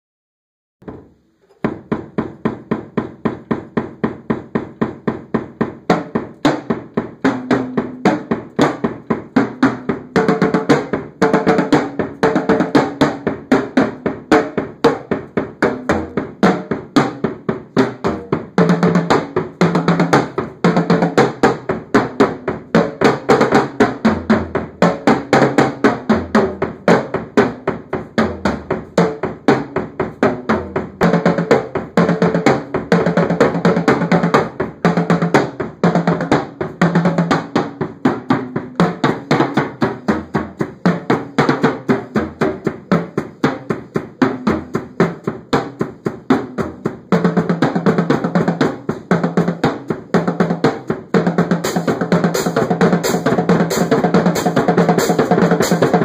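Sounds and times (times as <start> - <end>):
drum kit solo: 0.8 - 56.0.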